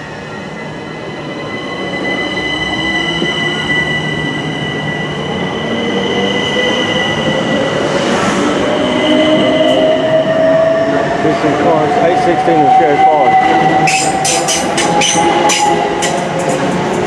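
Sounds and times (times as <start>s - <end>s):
electric train running: 0.0s - 17.0s
high-pitched squealing: 1.4s - 17.0s.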